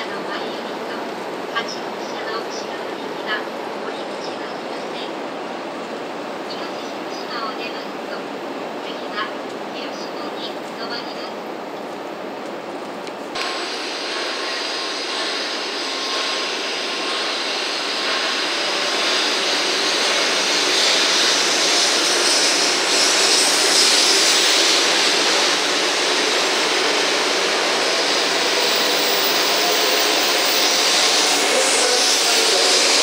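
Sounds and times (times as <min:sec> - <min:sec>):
high-speed train pulling out: 0:00.0 - 0:33.0.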